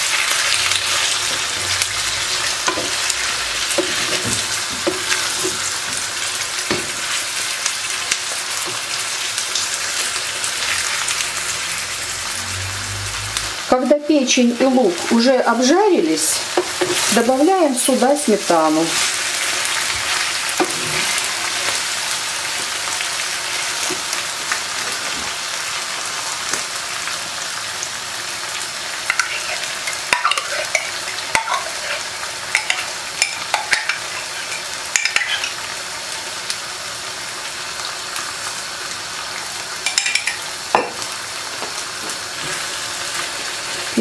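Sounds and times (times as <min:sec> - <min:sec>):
liver and onions sizzling in a pan: 0:00.0 - 0:44.0.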